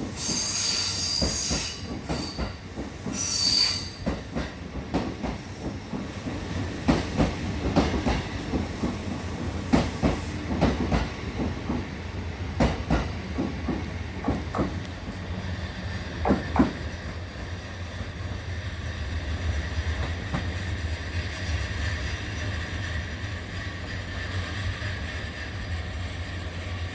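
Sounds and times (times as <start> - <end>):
train low rumble: 0.0 - 26.9
train wheels clacking over joints: 0.1 - 25.7.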